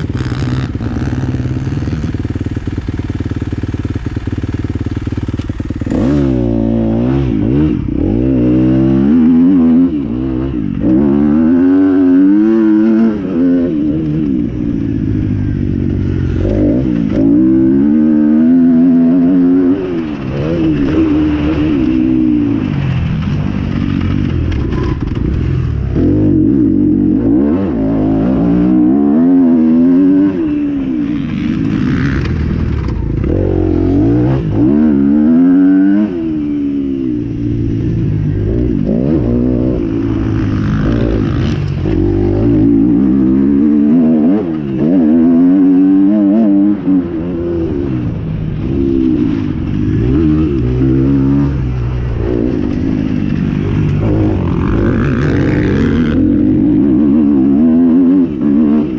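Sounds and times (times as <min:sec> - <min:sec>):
motocross motorcycles revving: 0:00.0 - 0:58.9.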